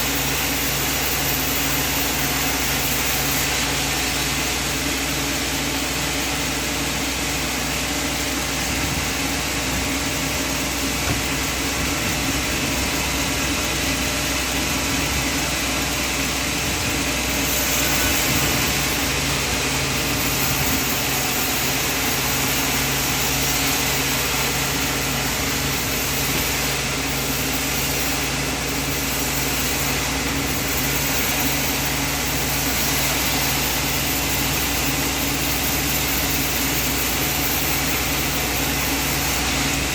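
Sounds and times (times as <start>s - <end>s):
broad hiss: 0.0s - 39.9s
sawmill machinery hum: 0.0s - 39.9s.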